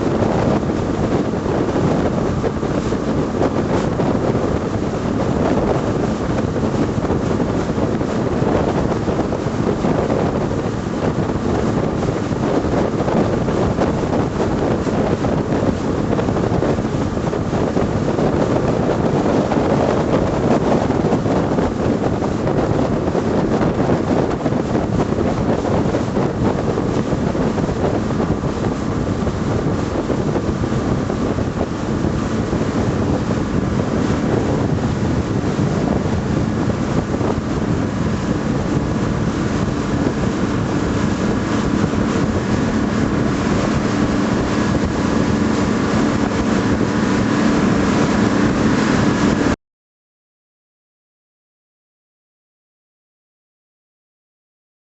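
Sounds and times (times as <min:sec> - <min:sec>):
boat engine drone: 0:00.0 - 0:49.6
rushing water: 0:00.0 - 0:49.6
wind buffeting microphone: 0:00.0 - 0:49.6.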